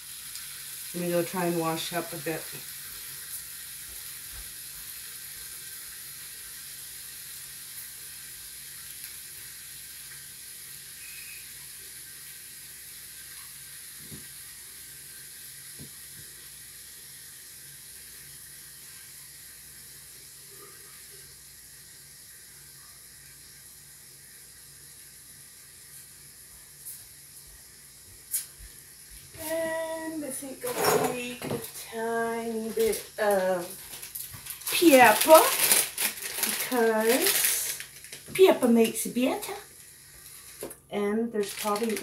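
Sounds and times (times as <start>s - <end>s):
grease sizzling in a waffle iron: 0.0s - 42.0s.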